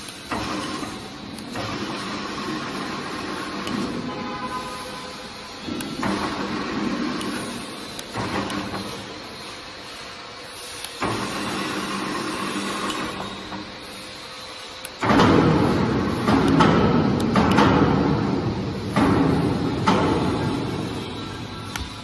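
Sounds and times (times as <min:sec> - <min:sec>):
electric motor and gearbox humming: 0:00.0 - 0:22.0.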